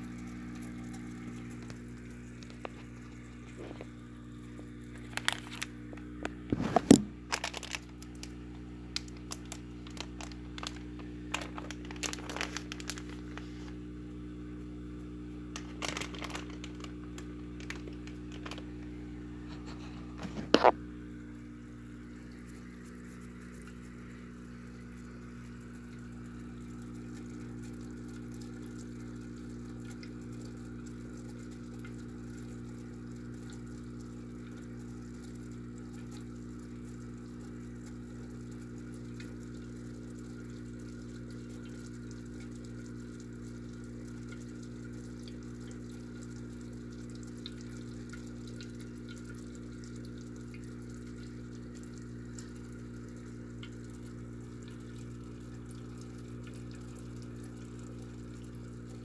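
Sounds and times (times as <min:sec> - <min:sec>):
aquarium pump humming: 0:00.0 - 0:59.0
bubbles fizzing in water: 0:00.0 - 0:59.0.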